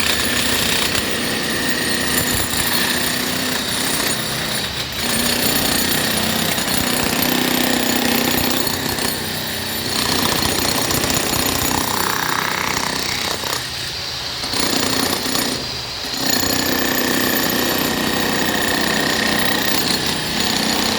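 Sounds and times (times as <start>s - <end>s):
jackhammer breaking concrete: 0.0s - 20.9s.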